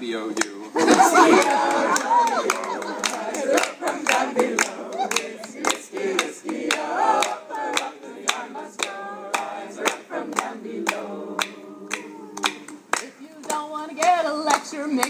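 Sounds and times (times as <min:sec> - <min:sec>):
hand clapping: 0:00.4 - 0:15.0
group singing: 0:00.8 - 0:15.0.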